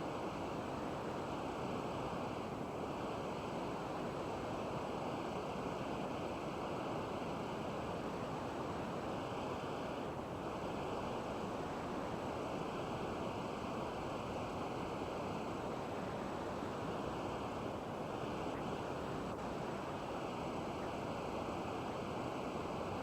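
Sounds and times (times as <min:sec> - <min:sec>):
faint high whine: 0:00.0 - 0:23.0
static hiss: 0:00.0 - 0:23.0.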